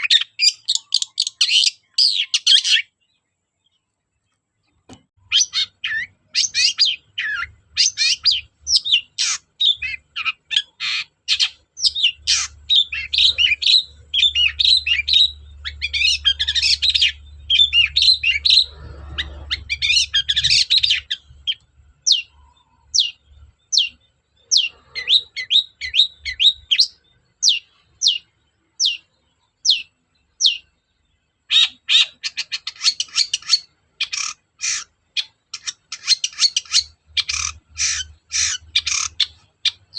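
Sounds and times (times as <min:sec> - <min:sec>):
shrike singing chattering song: 0:05.2 - 0:30.8, 0:31.4 - 0:39.9.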